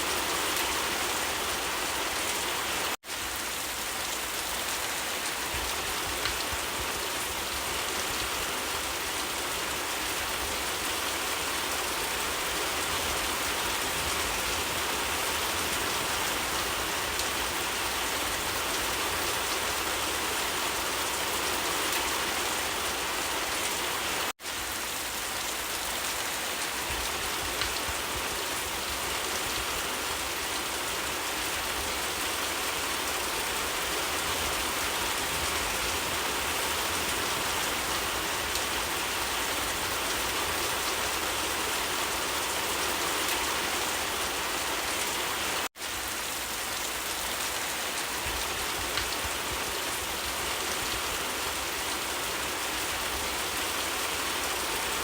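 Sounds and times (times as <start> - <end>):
rain pattering on surfaces: 0.0 - 55.0.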